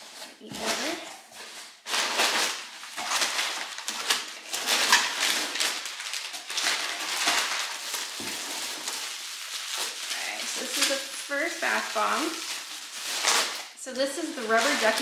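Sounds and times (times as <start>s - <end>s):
packing paper rustling: 0.0s - 15.0s.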